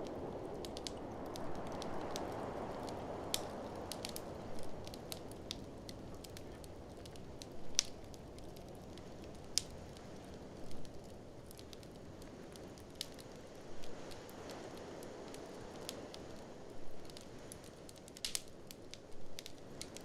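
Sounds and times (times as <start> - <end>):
fire pops and snaps: 0.0 - 20.0
wood fire crackling: 0.0 - 20.0.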